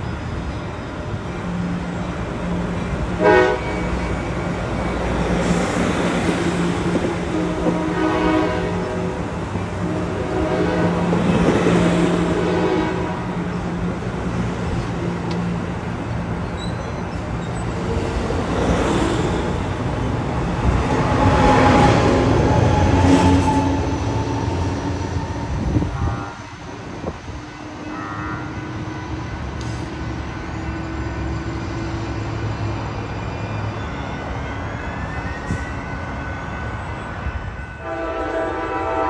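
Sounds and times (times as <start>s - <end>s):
train cars rumbling past: 0.0s - 39.0s.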